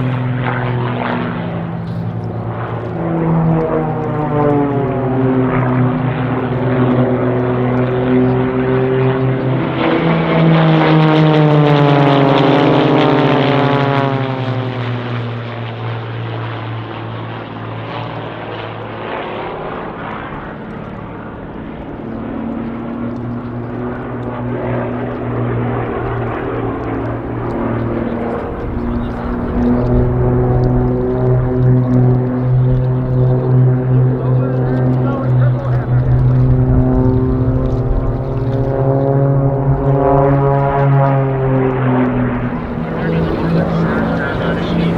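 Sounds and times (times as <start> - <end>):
engine drone: 0.0 - 14.1, 21.9 - 44.9
propeller aircraft flying past: 0.0 - 44.9.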